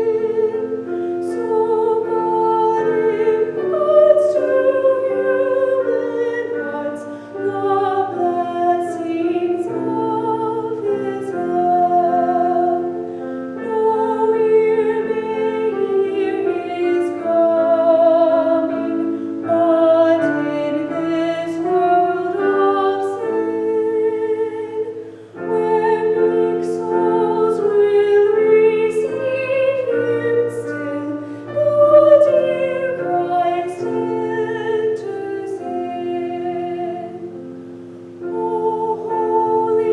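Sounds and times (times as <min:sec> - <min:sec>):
woman singing operatically: 0:00.0 - 0:12.9, 0:13.6 - 0:37.2
piano: 0:00.0 - 0:39.9.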